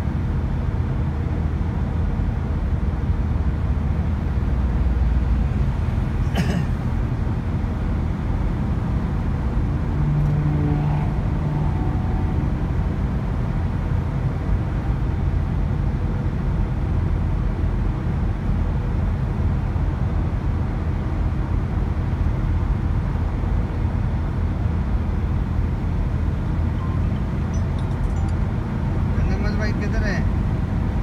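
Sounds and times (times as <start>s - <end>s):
road noise inside a car: 0.0s - 31.0s.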